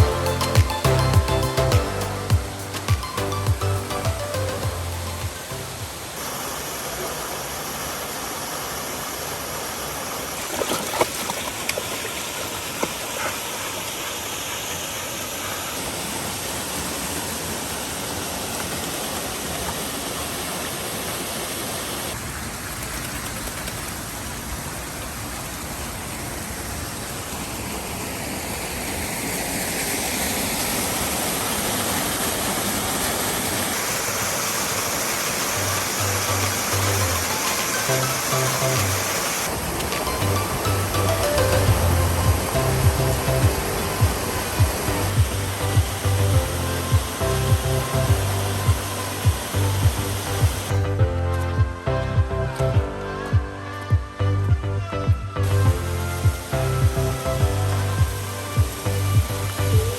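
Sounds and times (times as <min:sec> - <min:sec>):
waterfall and creek rushing: 0:00.0 - 0:59.9.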